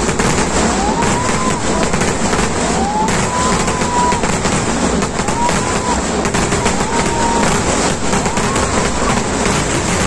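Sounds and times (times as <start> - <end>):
fireworks crackling and exploding: 0.0 - 10.0
rising firework whistle: 0.0 - 10.0.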